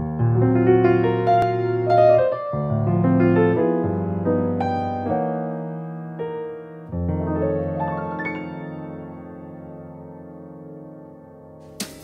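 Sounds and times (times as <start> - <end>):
slow gentle piano chords: 0.0 - 11.7.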